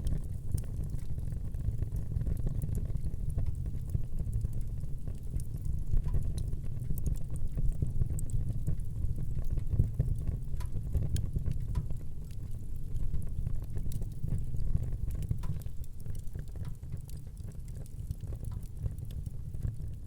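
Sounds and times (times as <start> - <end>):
fire crackling and popping: 0.0 - 20.0
low rumble of flame: 0.0 - 20.0.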